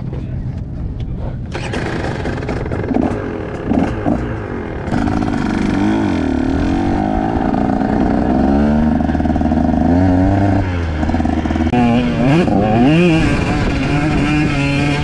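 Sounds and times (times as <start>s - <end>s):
dirt bike engine revving: 1.5s - 15.0s.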